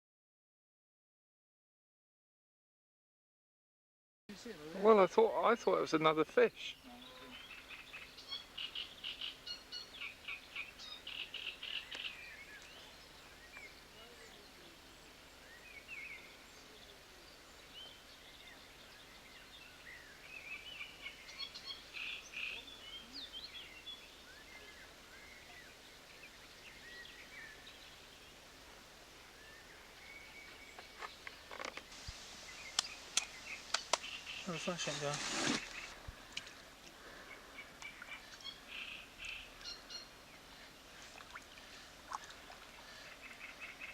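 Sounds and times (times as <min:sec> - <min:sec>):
faint background hiss: 0:04.3 - 0:43.9
songbirds chirping: 0:04.3 - 0:43.9.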